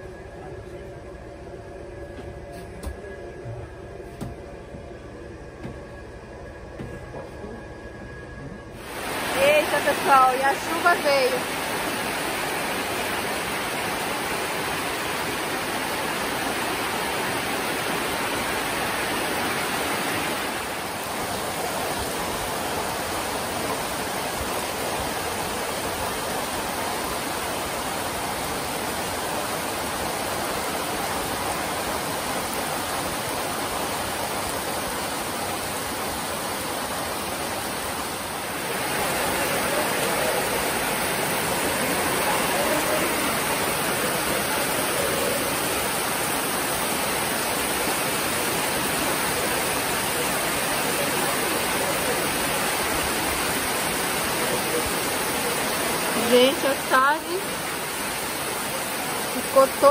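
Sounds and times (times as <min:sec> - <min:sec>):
heavy rain hissing: 0:08.7 - 0:59.9.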